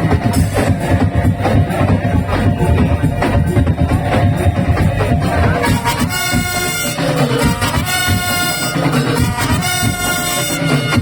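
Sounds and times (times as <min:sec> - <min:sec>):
pounding drums: 0:00.0 - 0:11.0
reedy melody line: 0:00.0 - 0:11.0.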